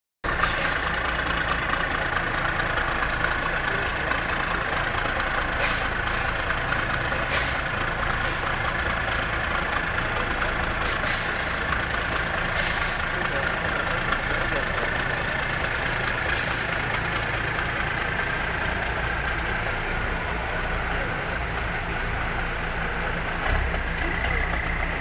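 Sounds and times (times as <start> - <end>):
truck diesel engine running: 0.2 - 25.0.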